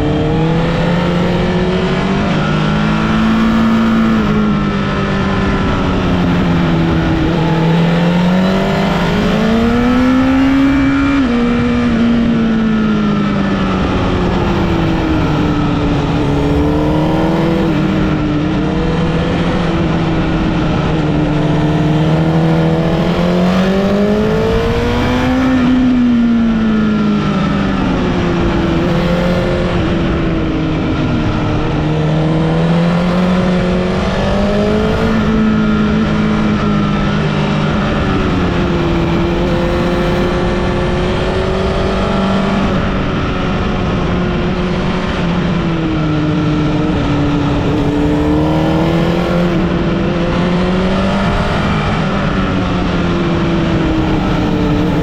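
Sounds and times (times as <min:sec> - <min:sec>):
road and tyre noise: 0:00.0 - 0:55.0
vehicle engine revving: 0:00.0 - 0:55.0.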